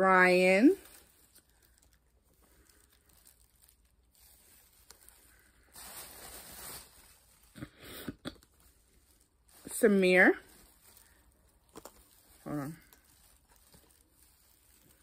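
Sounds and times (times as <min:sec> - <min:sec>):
plush toys with paper tags rustling: 0:00.0 - 0:15.0.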